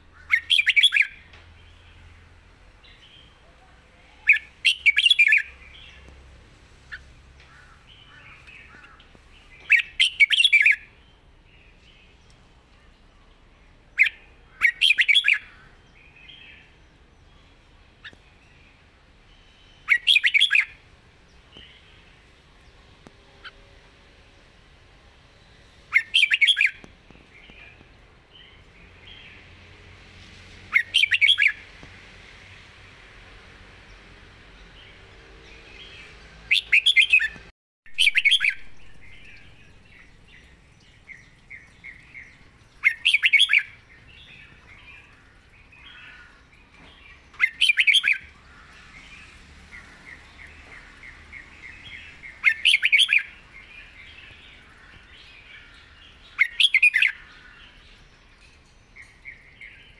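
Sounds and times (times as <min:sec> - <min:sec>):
bird singing song phrases: 0:00.0 - 0:24.4, 0:25.2 - 0:29.9, 0:30.6 - 0:31.8, 0:33.8 - 0:59.9.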